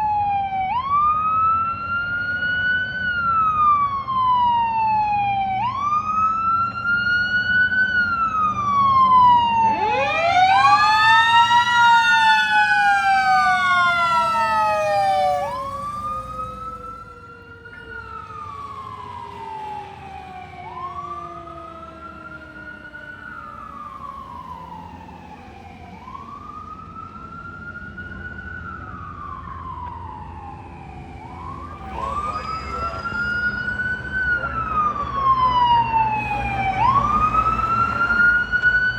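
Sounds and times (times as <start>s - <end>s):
fire engine siren wailing: 0.0s - 38.9s.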